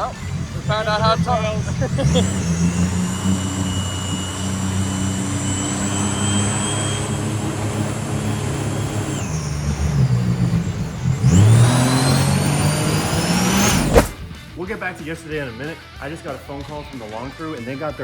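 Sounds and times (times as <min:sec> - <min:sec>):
boat engine whining under load: 0:00.0 - 0:14.6.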